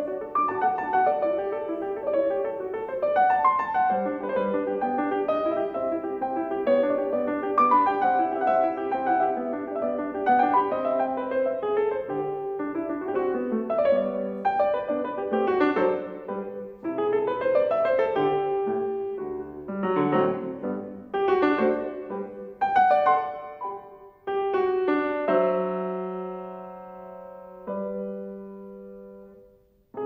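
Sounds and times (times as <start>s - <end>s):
solo classical piano: 0.0s - 30.0s.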